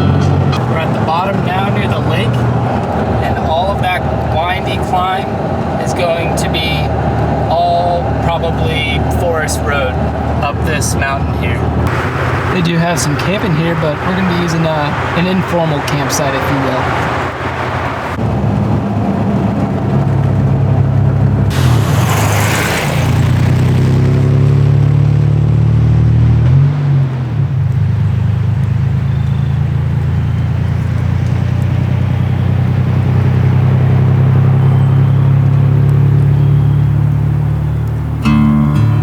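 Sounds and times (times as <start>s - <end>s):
truck engine driving uphill: 0.0s - 39.0s.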